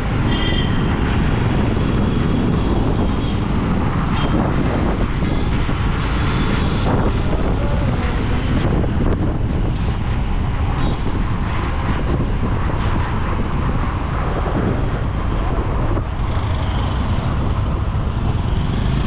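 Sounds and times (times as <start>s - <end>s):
road and traffic noise: 0.0s - 19.0s
wind buffeting microphone: 0.0s - 19.0s.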